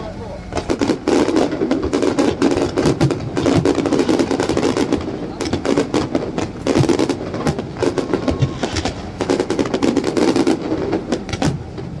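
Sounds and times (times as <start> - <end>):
fireworks bangs and crackles: 0.5 - 12.0.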